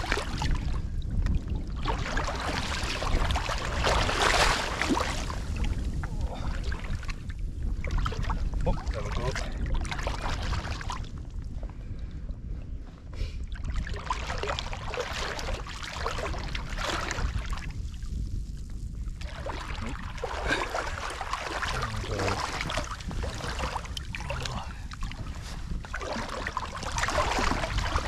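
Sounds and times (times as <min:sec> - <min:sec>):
low wind rumble: 0:00.0 - 0:28.0.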